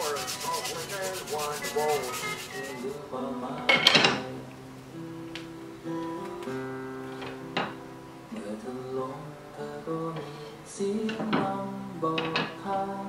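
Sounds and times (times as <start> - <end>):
acoustic guitar plucking and strumming: 0.0 - 13.0.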